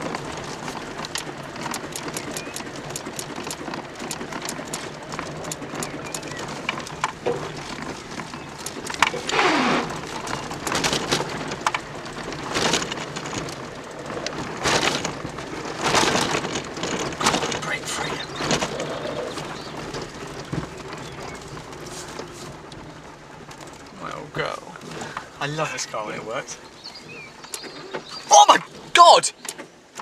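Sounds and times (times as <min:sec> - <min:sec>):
small clicks and rattles: 0:00.0 - 0:28.8
tyre and road noise: 0:00.0 - 0:30.0.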